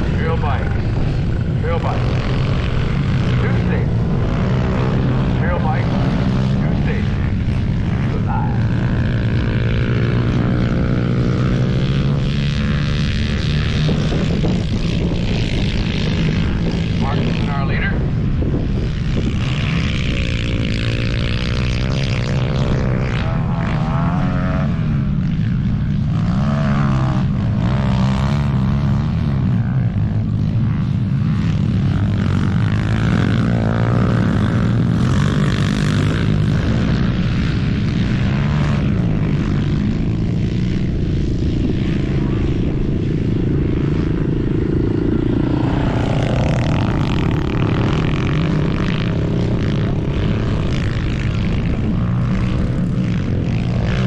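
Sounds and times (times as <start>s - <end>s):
small motorbike engine droning: 0.0s - 54.0s.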